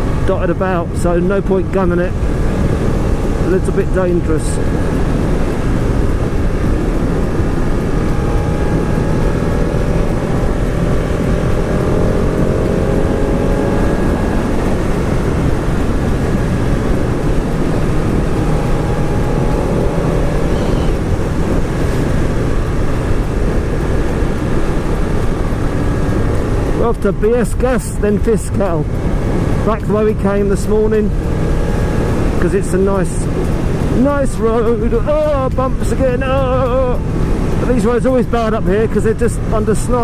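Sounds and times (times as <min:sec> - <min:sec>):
motorcycle engine running: 0:00.0 - 0:40.0
wind rush on microphone: 0:00.0 - 0:40.0.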